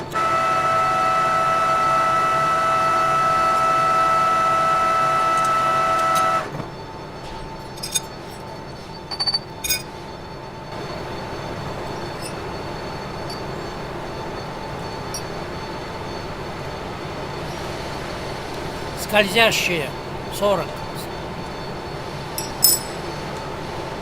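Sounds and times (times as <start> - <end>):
loud steady whine: 0.0 - 24.0
metal lathe running: 0.0 - 24.0.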